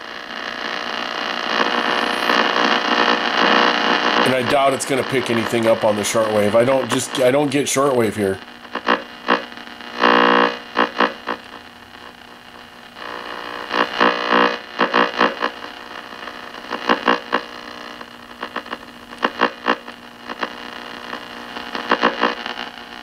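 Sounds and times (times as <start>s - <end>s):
radio static and whistling: 0.0s - 12.2s, 13.0s - 22.7s
radio hum: 0.0s - 23.0s.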